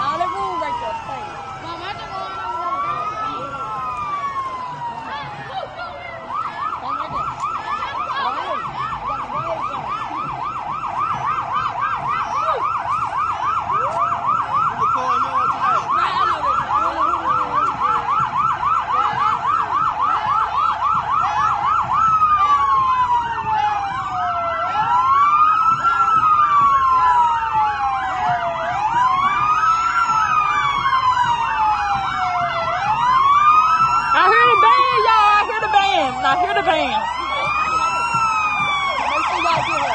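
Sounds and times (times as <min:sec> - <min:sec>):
emergency sirens: 0:00.0 - 0:39.9.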